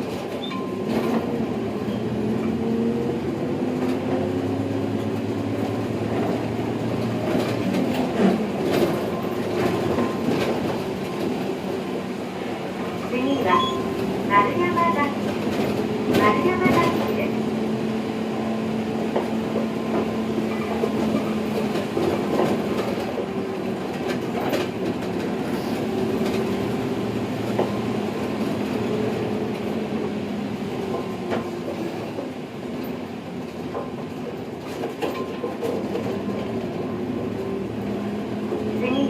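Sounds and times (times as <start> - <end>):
bus diesel engine drone: 0.0 - 39.0.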